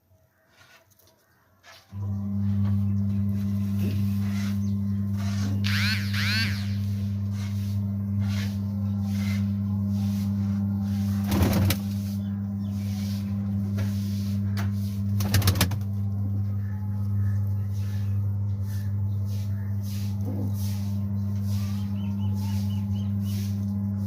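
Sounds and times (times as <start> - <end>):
steady low hum: 1.8 - 24.0
pigeons cooing: 3.8 - 23.9.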